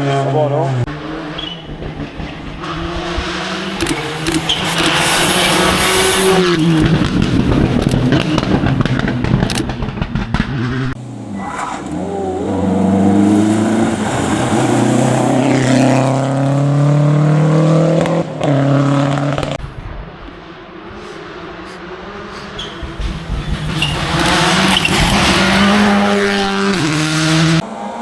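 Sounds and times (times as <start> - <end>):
rally car engines accelerating: 0.0 - 28.0.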